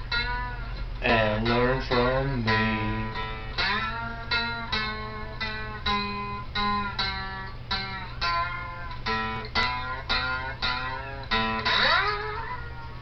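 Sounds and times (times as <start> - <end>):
plucked guitar: 0.0 - 13.0.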